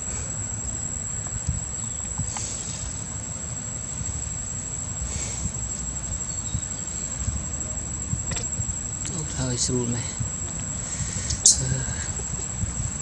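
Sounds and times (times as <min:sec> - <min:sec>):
insects droning: 0:00.0 - 0:13.0
low rumble: 0:00.0 - 0:13.0.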